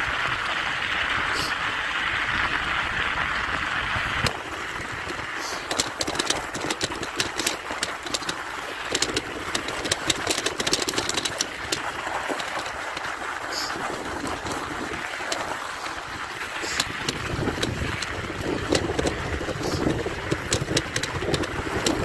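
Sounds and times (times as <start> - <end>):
bicycle tyres rolling over snow: 0.0 - 22.0.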